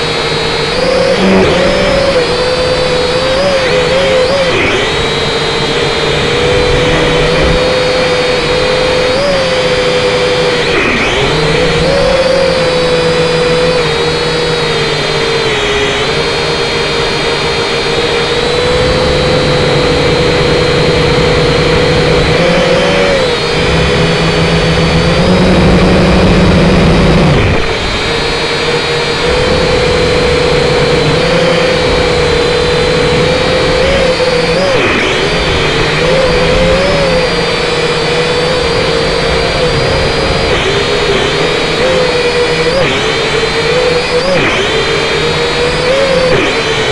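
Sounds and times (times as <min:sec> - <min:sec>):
toy drone propellers whirring: 0:00.0 - 0:26.8, 0:27.6 - 0:46.6.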